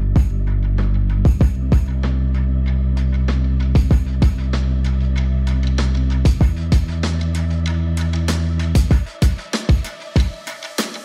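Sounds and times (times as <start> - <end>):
sustained bass line: 0.0 - 9.1
background music with drums: 0.0 - 11.0.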